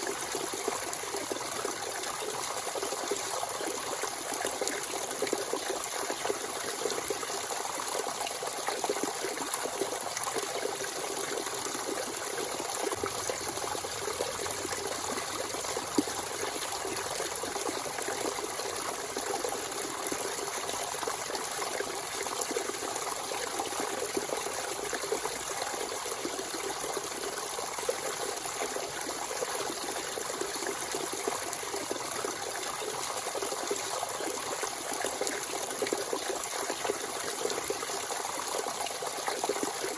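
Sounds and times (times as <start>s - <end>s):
spring water flowing: 0.0s - 32.6s.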